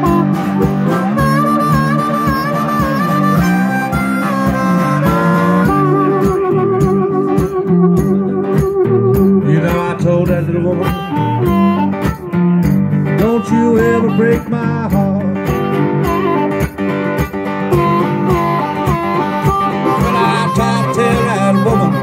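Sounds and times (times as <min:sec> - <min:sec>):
bass: 0:00.0 - 0:22.0
electric guitar lead: 0:00.0 - 0:22.0
steady drum beat: 0:00.0 - 0:22.0.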